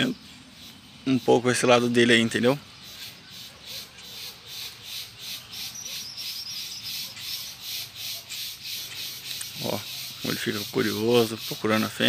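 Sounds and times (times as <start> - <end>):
high wavering bird trill: 0.0 - 12.0.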